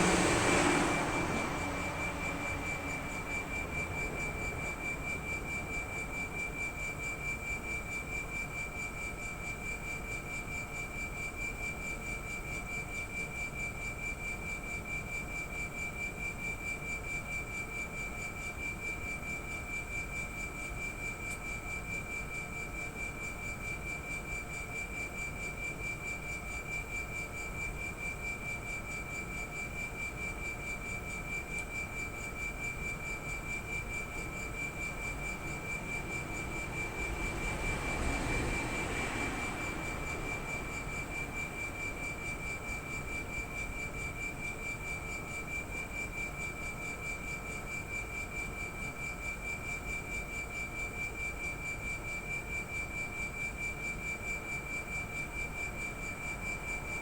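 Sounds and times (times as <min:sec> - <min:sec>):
air conditioner compressor whining: 0:00.0 - 0:48.8.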